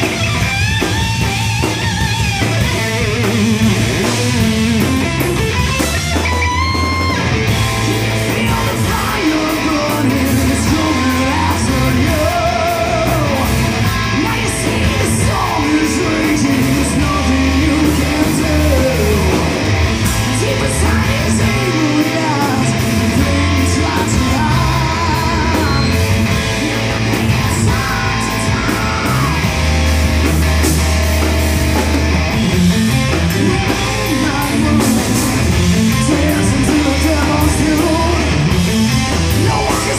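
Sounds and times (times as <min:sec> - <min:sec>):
heavy metal band playing: 0:00.0 - 0:39.9
man singing and shouting: 0:02.8 - 0:29.6, 0:33.0 - 0:39.9.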